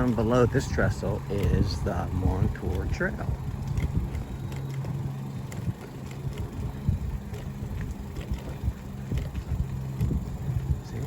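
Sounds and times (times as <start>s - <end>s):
bicycle tyres rumbling: 0.0s - 11.0s
wind on microphone: 0.0s - 11.0s.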